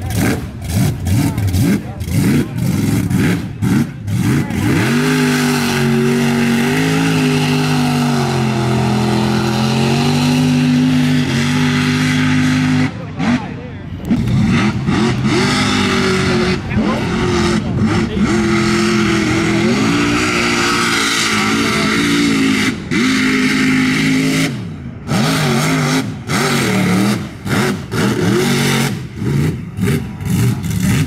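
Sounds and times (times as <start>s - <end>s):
pickup engine revving: 0.0s - 31.0s.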